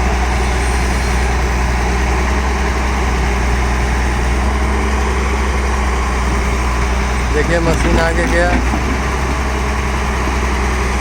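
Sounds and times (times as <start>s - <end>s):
excavator diesel engine humming: 0.0s - 11.0s
hydraulics working: 0.0s - 11.0s.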